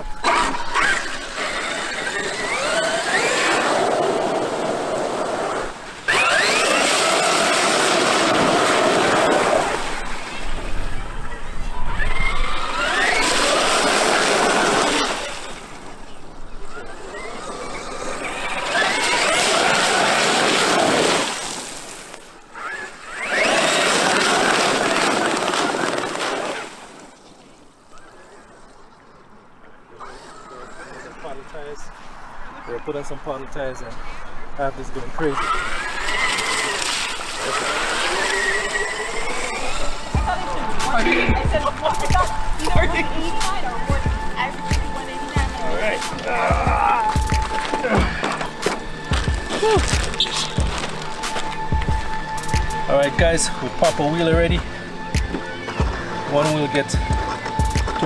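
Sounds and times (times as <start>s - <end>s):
electric motor whining: 0.0s - 16.0s, 16.6s - 26.9s, 35.3s - 58.0s
tyre and ground noise: 0.0s - 31.9s, 35.1s - 58.0s.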